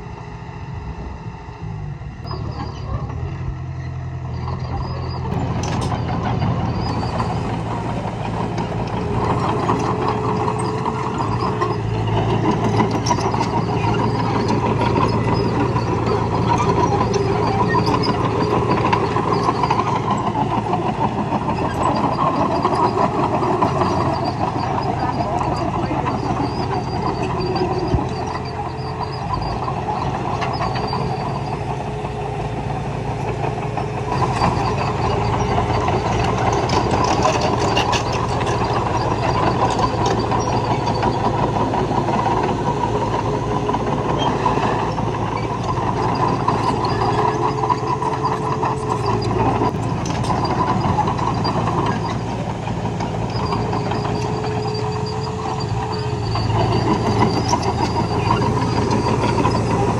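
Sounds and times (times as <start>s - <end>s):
earth-moving machinery drone: 0.0s - 59.9s
machinery whine: 0.0s - 59.9s.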